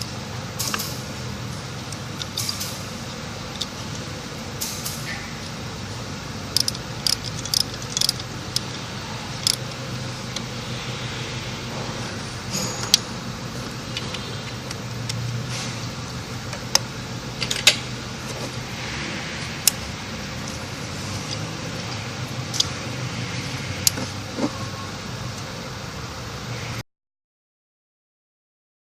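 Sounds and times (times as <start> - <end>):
steady low hum: 0.0 - 26.8.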